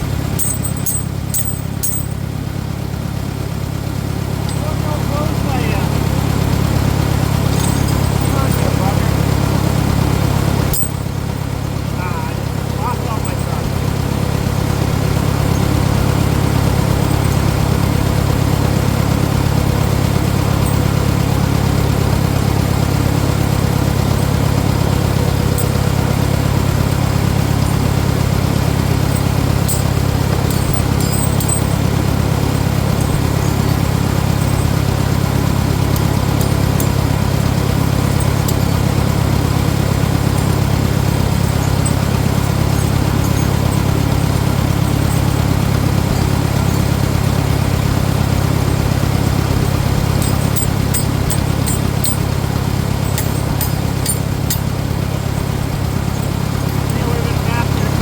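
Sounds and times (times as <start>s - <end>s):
tractor engine idling: 0.0s - 58.0s.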